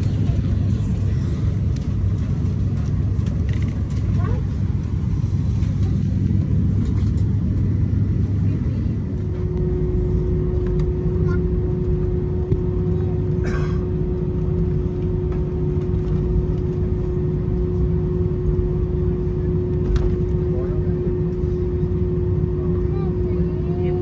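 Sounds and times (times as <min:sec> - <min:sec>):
rumble of engines and airflow: 0:00.0 - 0:24.0
steady hum: 0:00.0 - 0:24.0.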